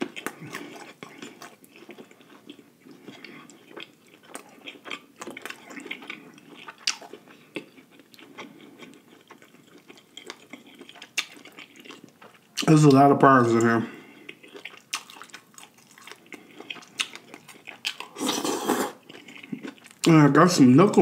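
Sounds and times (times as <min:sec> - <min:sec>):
wet chewing and lip smacking: 0:00.0 - 0:12.9, 0:13.6 - 0:20.2
fingers squishing through sauce: 0:00.0 - 0:13.0, 0:13.6 - 0:20.2.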